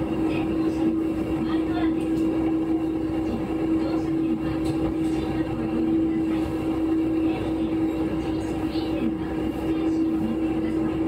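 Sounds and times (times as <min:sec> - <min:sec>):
constant tone: 0:00.0 - 0:11.0
diesel railcar engine hum: 0:00.0 - 0:11.0.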